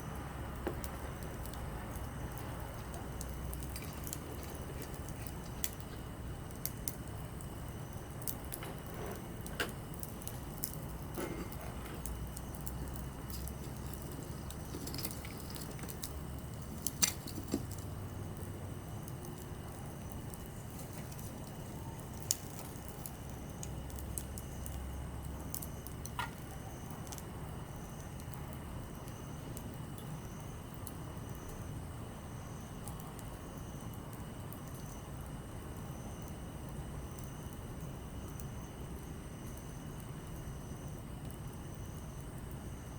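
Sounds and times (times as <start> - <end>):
campfire crackling and popping: 0.0 - 42.9
fire low rumble: 0.0 - 42.9.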